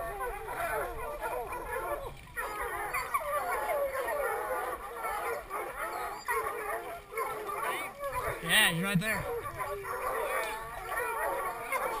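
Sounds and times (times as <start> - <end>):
hounds baying and howling: 0.0 - 12.0.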